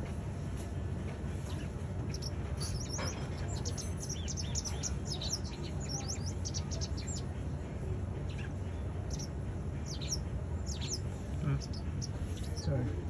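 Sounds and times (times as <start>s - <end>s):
low background rumble: 0.0s - 13.0s
bird chirping and twittering: 1.3s - 7.6s, 8.2s - 13.0s.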